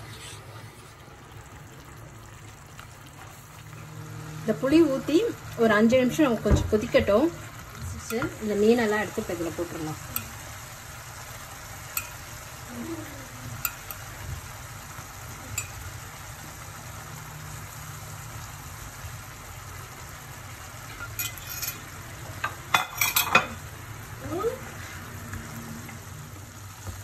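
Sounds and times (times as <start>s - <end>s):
sauce bubbling and sizzling: 0.0s - 27.0s.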